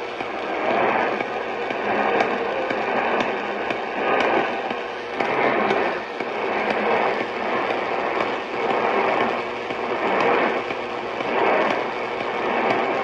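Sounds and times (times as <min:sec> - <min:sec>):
hissing radio static: 0:00.0 - 0:13.0.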